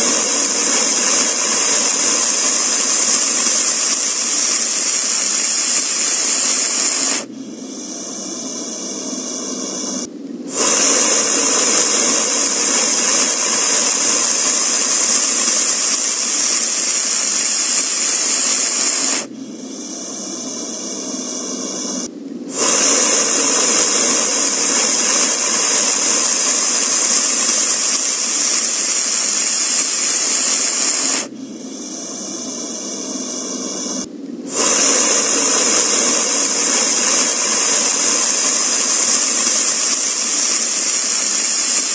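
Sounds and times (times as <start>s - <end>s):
snake hissing: 0.0s - 41.9s.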